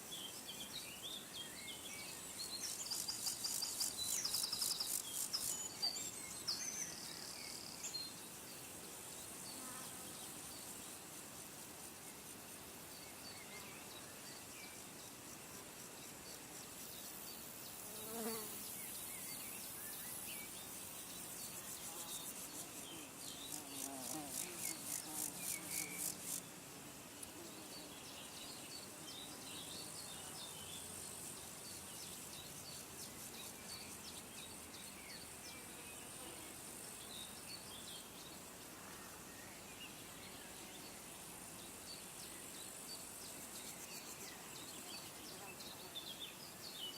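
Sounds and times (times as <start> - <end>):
insects buzzing and chirping: 0.0 - 46.9.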